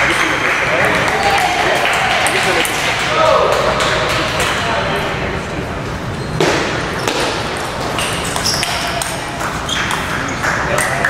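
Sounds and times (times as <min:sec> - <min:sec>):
large hall background noise: 0:00.0 - 0:11.0.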